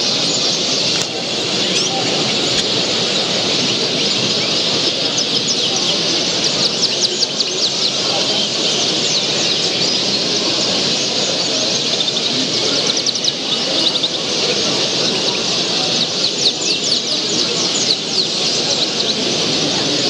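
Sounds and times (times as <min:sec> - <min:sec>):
canaries singing and chirping: 0:00.0 - 0:20.0
murmur of crowd voices: 0:00.0 - 0:20.0.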